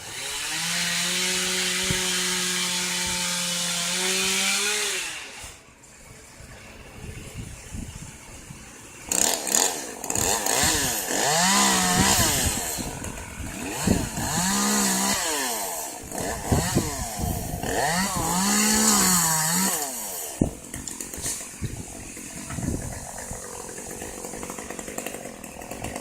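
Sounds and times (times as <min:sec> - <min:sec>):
chainsaw revving: 0:00.0 - 0:05.6, 0:09.0 - 0:26.0.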